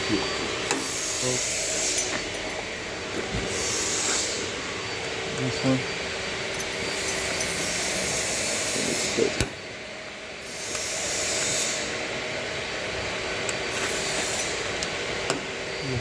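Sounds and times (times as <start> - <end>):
steady machine hiss: 0.0 - 9.6, 10.4 - 16.0.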